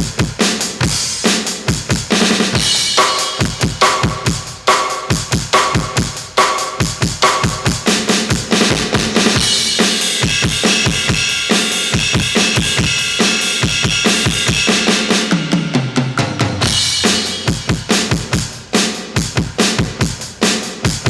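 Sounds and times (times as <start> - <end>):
electronic drum kit beat: 0.0 - 21.0.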